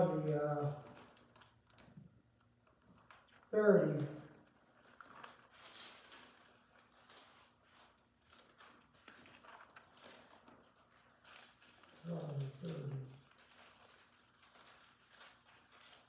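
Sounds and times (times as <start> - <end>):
pages rustling: 0.0 - 16.0.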